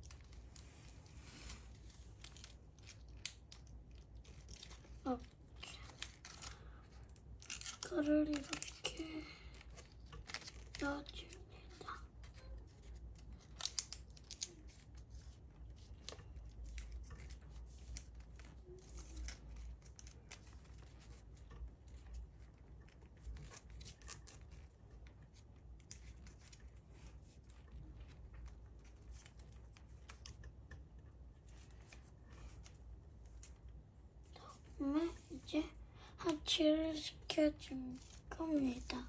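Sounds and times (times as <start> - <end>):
paper rustling and crinkling: 0.0 - 30.5, 31.4 - 33.7, 37.6 - 39.0.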